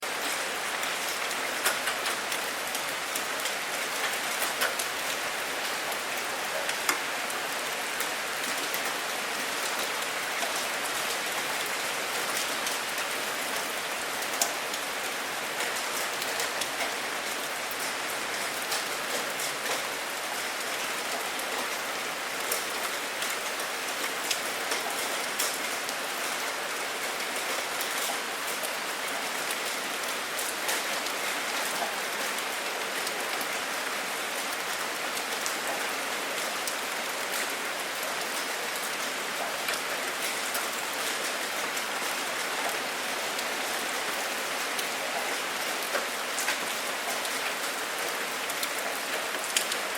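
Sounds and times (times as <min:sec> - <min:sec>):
steady rain hiss: 0:00.0 - 0:49.9
raindrops clicking on a surface: 0:00.1 - 0:49.9.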